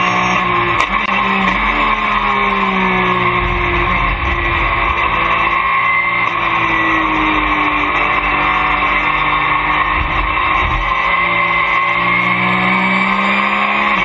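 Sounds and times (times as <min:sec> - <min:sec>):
low rumble from car: 0:00.0 - 0:13.0
race car engine: 0:00.0 - 0:14.0.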